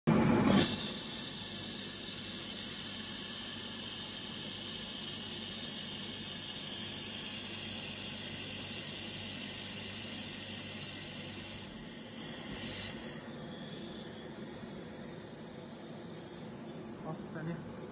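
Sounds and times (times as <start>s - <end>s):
laser welder hissing: 0.4s - 16.6s.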